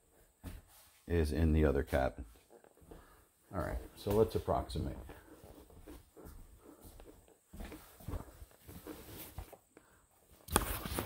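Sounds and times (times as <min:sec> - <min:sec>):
footsteps shuffling on subfloor: 0:00.0 - 0:11.0.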